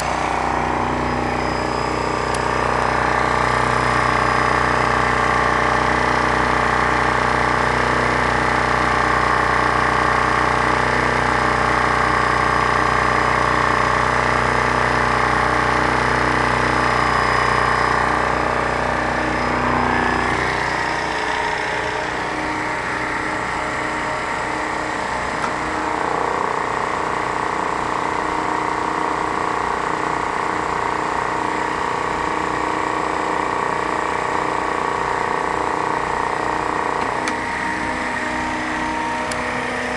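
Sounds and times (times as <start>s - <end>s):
generator running: 0.0s - 39.9s.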